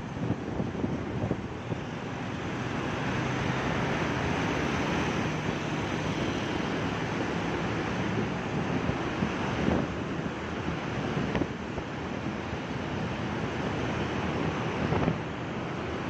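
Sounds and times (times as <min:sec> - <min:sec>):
motorcycle road noise in tunnel: 0:00.0 - 0:16.0
wind rushing on microphone: 0:00.0 - 0:16.0.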